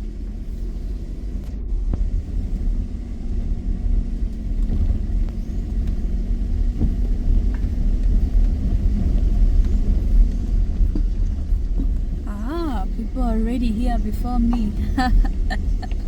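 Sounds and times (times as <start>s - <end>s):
car engine and road noise: 0.0s - 16.0s
faint constant hum: 1.8s - 16.0s.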